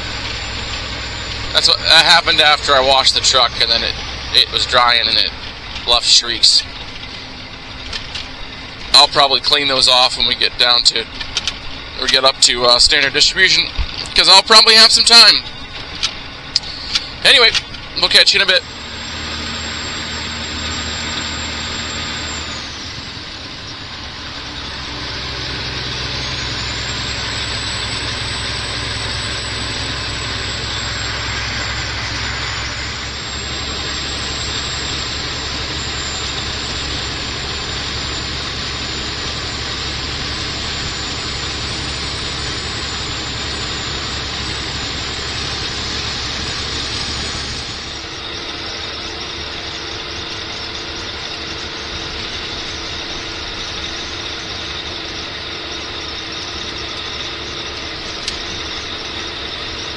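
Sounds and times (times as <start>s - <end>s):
road and tyre noise: 0.0s - 59.9s
truck engine drone: 0.0s - 59.9s.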